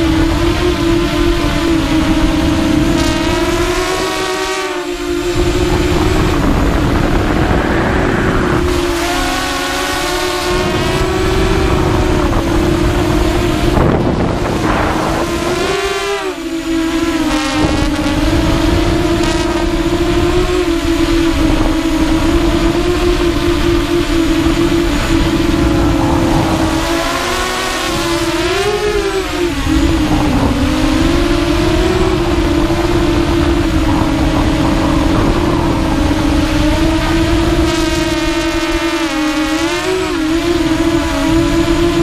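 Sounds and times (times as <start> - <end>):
quadcopter motors whining: 0.0 - 42.0
wind rushing over microphone: 0.0 - 42.0.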